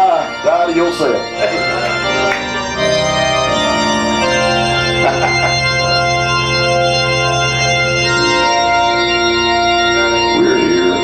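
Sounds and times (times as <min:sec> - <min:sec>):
organ sustained chords: 0:00.0 - 0:11.0.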